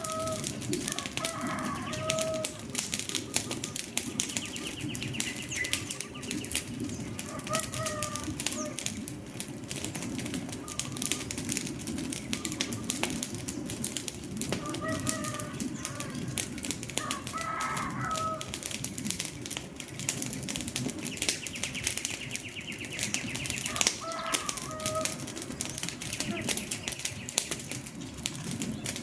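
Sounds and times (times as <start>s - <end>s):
bird calling: 0.0s - 9.0s, 10.4s - 13.7s, 14.5s - 18.5s, 21.0s - 29.0s
wood fire crackling: 0.0s - 29.0s.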